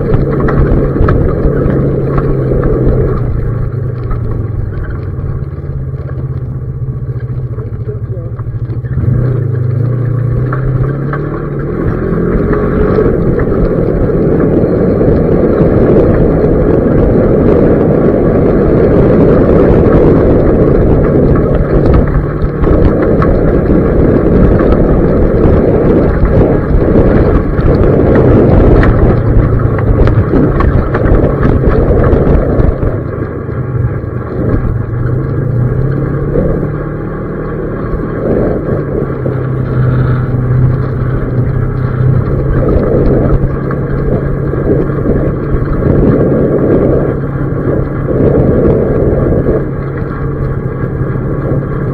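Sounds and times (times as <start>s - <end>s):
tyres rumbling on gravel: 0.0s - 51.9s
vehicle engine hum: 0.0s - 51.9s.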